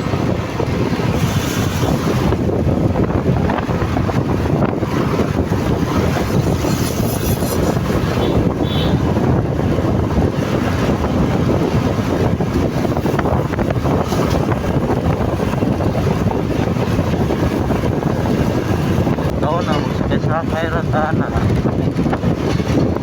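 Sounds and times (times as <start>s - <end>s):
motorcycle noise: 0.0s - 23.0s
wind buffeting microphone: 0.0s - 23.0s.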